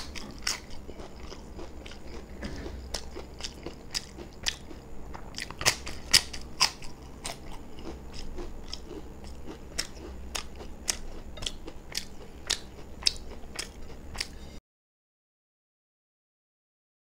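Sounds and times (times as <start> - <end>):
crunching and chewing: 0.0 - 14.6.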